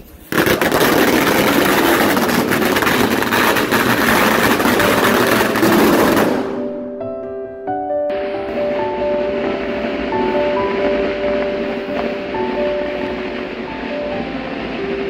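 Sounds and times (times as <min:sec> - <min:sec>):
firecrackers crackling: 0:00.0 - 0:06.8, 0:08.1 - 0:15.0.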